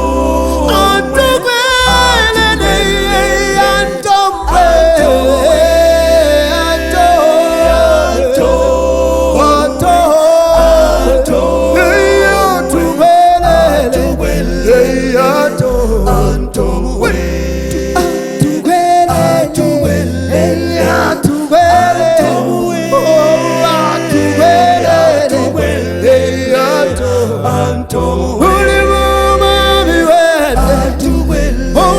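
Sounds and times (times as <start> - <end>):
a cappella group singing gospel: 0.0 - 31.9.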